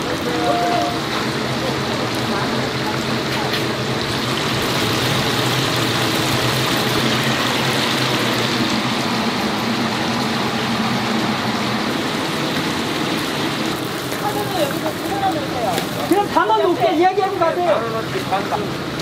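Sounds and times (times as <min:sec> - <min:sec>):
chicken deep-frying in oil: 0:00.0 - 0:19.0.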